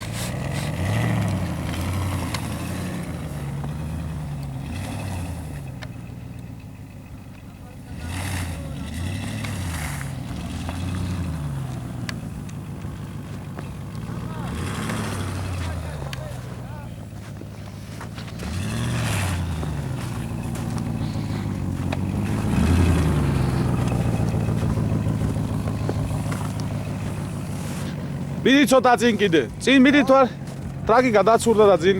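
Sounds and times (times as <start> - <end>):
vehicle engine revving: 0.0 - 31.9.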